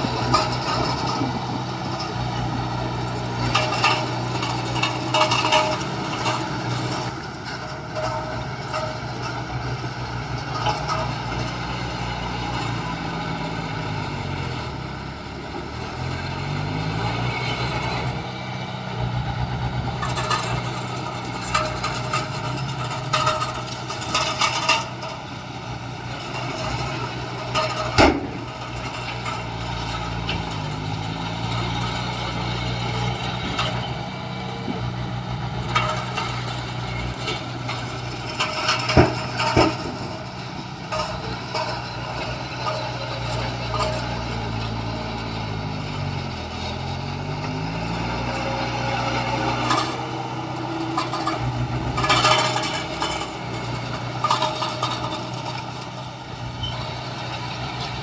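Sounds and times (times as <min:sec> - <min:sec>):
metallic knocks and clanks: 0:00.0 - 0:12.8, 0:19.5 - 0:58.0
diesel engine running: 0:00.0 - 0:58.0.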